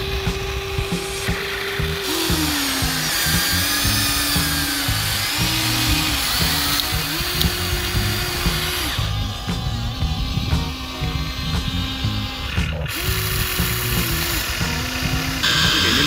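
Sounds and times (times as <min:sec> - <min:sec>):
background music: 0:00.0 - 0:16.0
toy excavator motors whining: 0:00.0 - 0:16.0.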